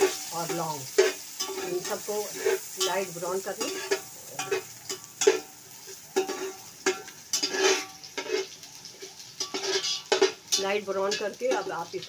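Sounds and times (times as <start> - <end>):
metal utensil scraping pot: 0.0 - 11.7
faint sizzle: 0.0 - 12.0.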